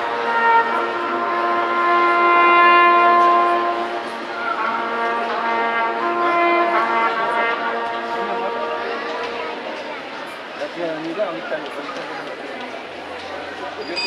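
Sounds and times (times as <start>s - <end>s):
brass band playing chords: 0.0s - 10.7s, 12.8s - 14.0s.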